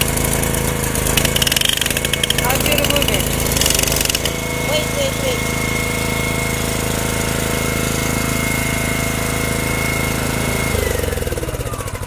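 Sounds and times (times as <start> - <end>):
petrol jackhammer running: 0.0 - 12.0.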